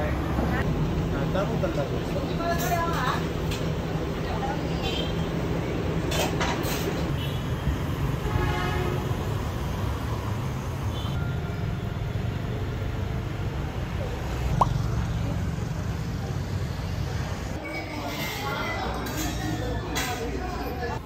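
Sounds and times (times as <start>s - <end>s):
vehicle rumble: 0.0s - 17.6s.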